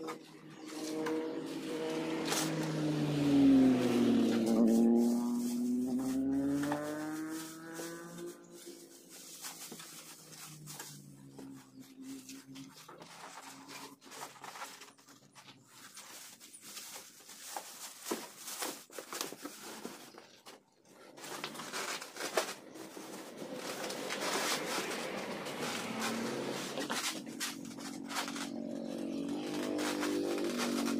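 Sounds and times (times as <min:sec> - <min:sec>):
plastic wrap crinkling: 0:02.4 - 0:30.9.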